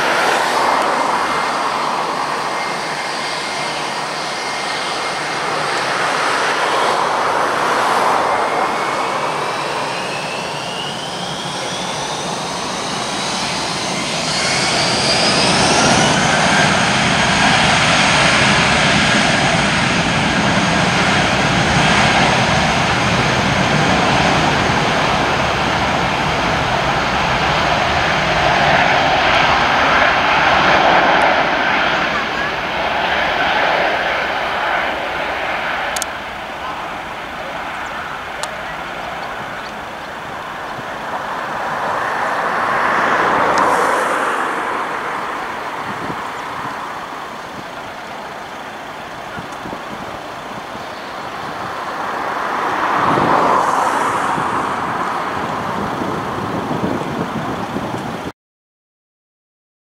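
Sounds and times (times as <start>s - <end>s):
jet engines spooling up: 0.0s - 58.3s.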